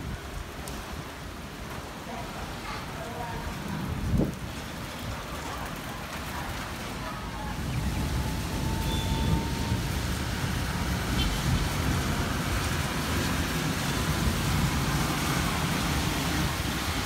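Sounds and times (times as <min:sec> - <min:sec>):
wind buffeting microphone: 0:03.2 - 0:17.0.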